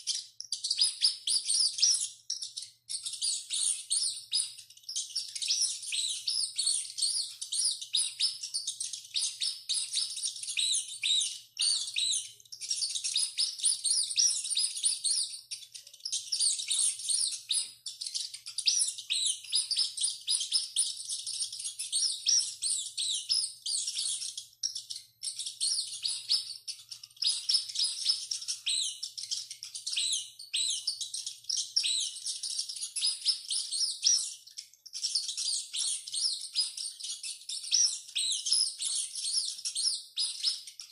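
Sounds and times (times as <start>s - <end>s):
rats squeaking: 0.0s - 40.9s.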